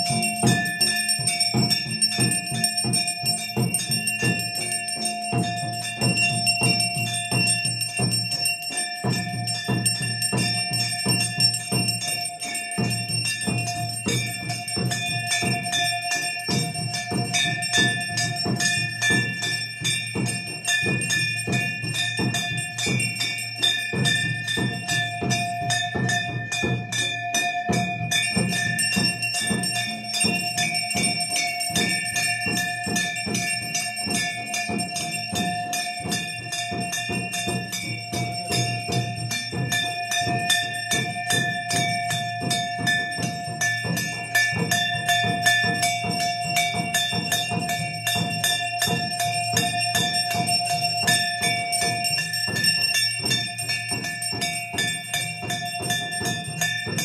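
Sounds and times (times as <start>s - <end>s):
metal bells rung rapidly: 0.0s - 57.0s.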